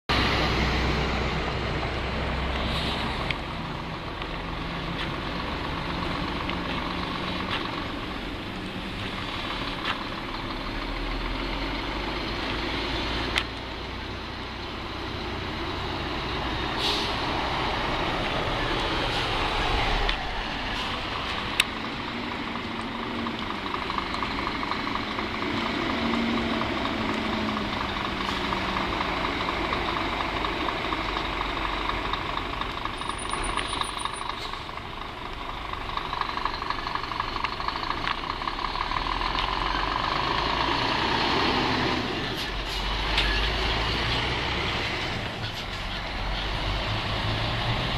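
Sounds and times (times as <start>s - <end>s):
truck diesel engine pulling away: 0.1s - 47.9s.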